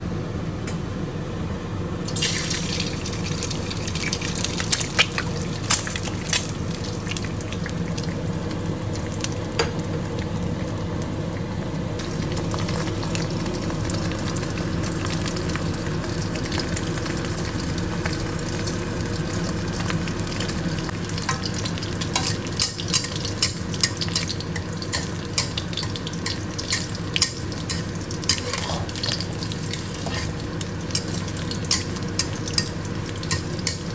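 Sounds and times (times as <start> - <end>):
steady low hum: 0.0 - 33.9
eggs sizzling in a pan: 2.1 - 33.9
oil popping and crackling: 2.1 - 33.9.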